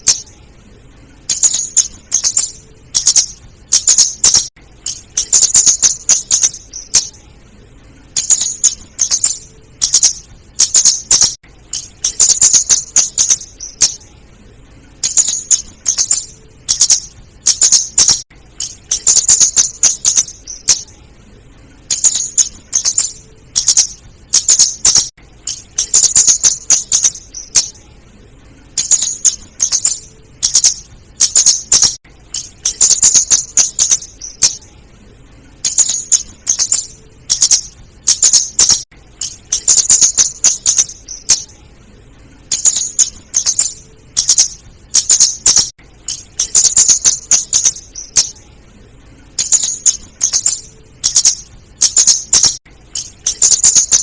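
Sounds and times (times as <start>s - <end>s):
bird calling with high ticking notes: 0.0s - 0.4s, 1.1s - 7.2s, 8.0s - 14.2s, 14.9s - 21.0s, 21.8s - 27.8s, 28.7s - 34.7s, 35.6s - 41.7s, 42.4s - 48.4s, 49.4s - 54.0s.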